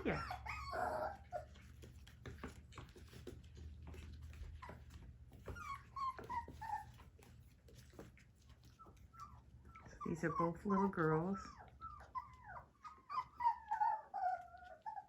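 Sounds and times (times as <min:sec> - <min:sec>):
puppies whimpering: 0:00.0 - 0:15.0.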